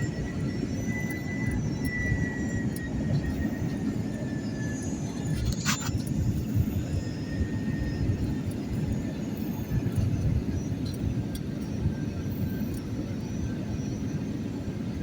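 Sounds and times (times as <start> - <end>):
jet airliner cabin rumble: 0.0 - 15.0.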